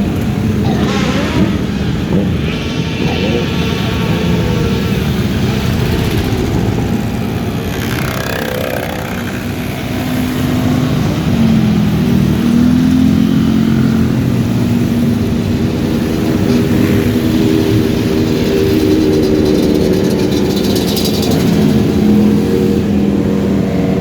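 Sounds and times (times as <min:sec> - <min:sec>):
motorcycle engine revving: 0:00.0 - 0:24.0
motorcycle engines running: 0:00.0 - 0:24.0.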